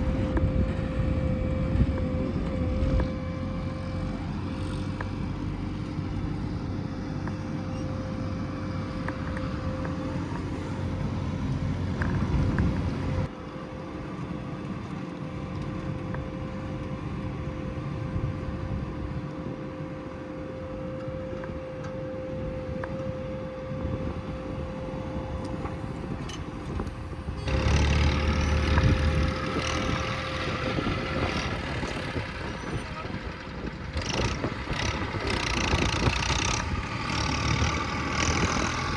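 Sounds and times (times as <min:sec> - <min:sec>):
earthmoving machine diesel engines: 0:00.0 - 0:38.9.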